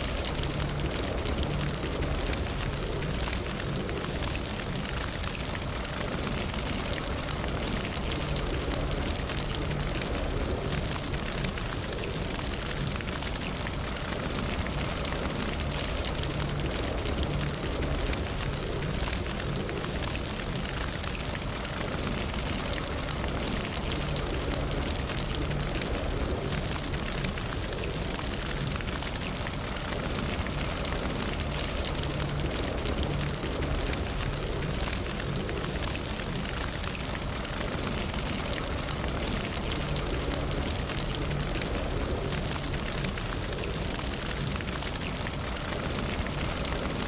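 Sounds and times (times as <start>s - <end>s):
campfire crackling and popping: 0.0s - 47.0s
low rumble of flames: 0.0s - 47.0s.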